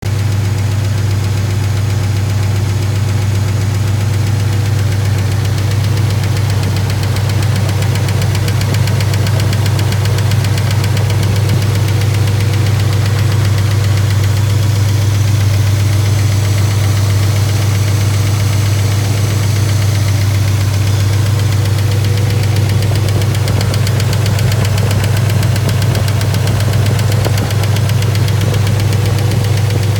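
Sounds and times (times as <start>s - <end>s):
car engine running: 0.1s - 29.9s
fast valve-train tick: 1.2s - 29.9s.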